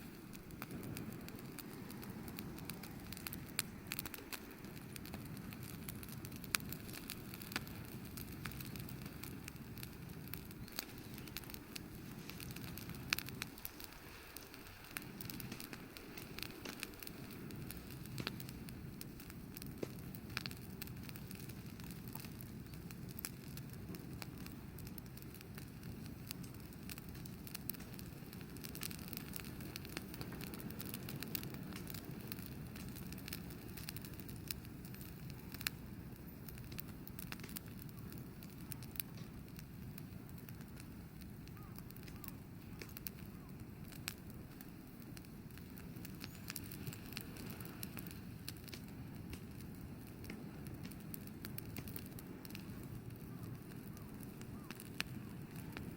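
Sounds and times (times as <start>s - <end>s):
bonfire crackling and popping: 0.0s - 55.9s
steady low rush: 0.0s - 55.9s.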